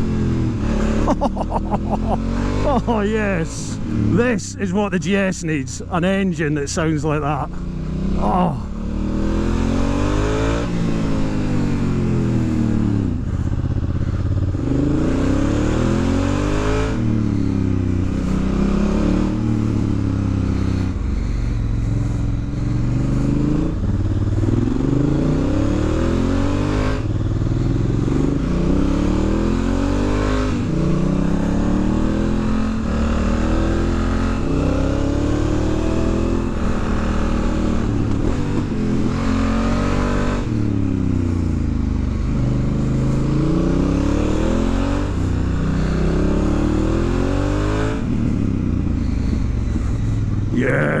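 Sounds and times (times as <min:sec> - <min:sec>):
motorcycle engine revving: 0:00.0 - 0:02.9, 0:07.5 - 0:51.0.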